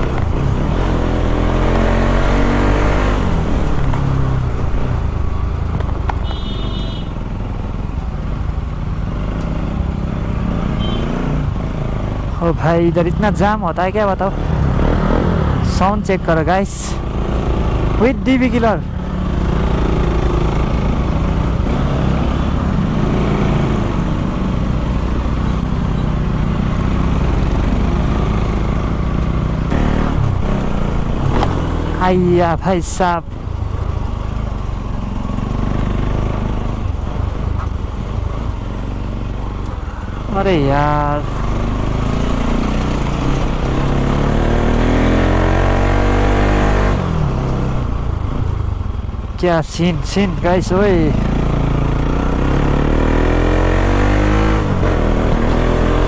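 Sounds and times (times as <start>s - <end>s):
motorcycle engine accelerating: 0.0s - 49.5s, 50.2s - 56.0s.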